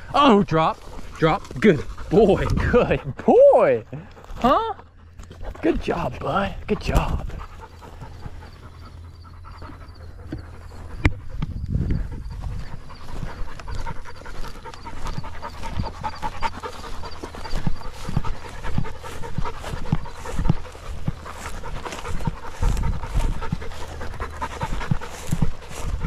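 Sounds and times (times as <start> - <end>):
dog panting: 0.4 - 26.0.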